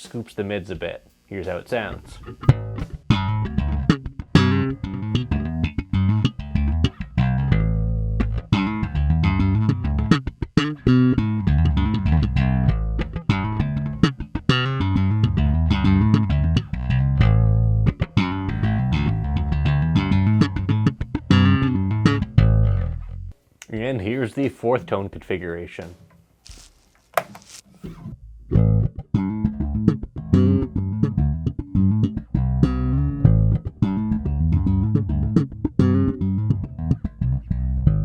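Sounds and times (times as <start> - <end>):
slap bass guitar: 0.8 - 23.9, 24.8 - 38.0.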